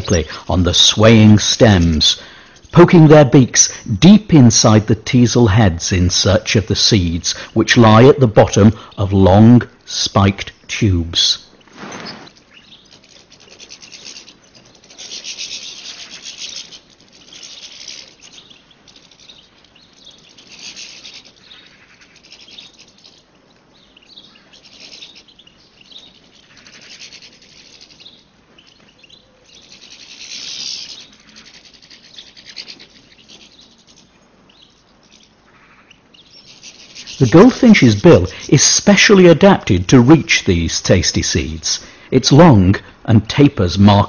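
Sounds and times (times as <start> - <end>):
goldfinches twittering: 0.0 - 44.0.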